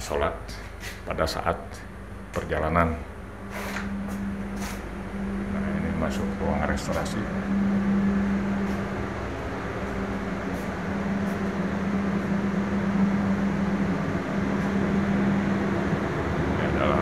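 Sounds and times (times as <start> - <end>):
ventilation hum: 0.0 - 17.0.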